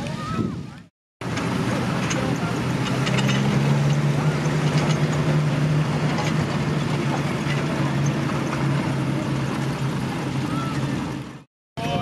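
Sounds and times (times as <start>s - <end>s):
truck engine driving past: 1.2s - 11.5s.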